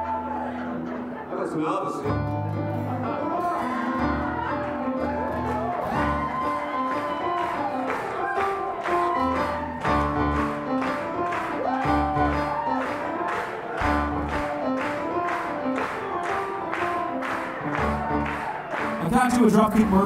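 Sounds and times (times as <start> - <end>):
piano chords and bass notes: 0.0 - 20.0.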